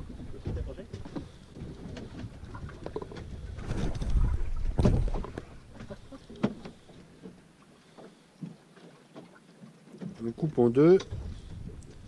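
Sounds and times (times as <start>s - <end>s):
wind and water rumble: 0.0s - 12.0s.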